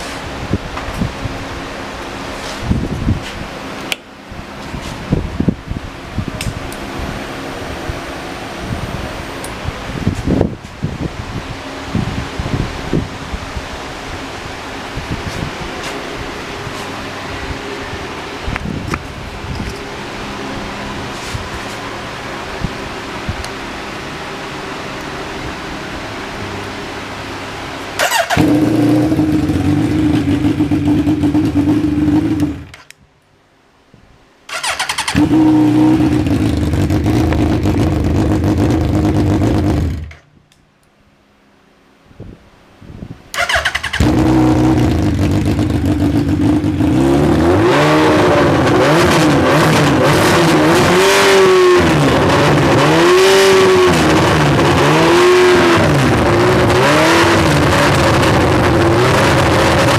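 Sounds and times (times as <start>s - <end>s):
motorcycle engine idling and revving: 0.0s - 33.0s, 34.5s - 40.3s, 43.3s - 59.9s.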